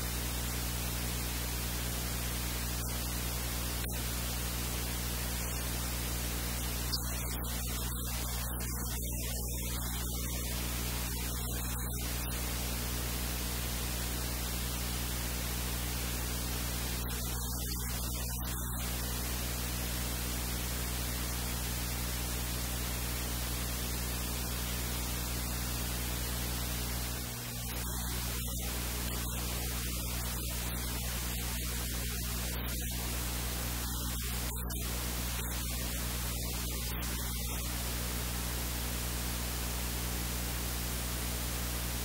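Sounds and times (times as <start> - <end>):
low electrical hum: 0.0 - 42.0
steady hiss: 0.0 - 42.0.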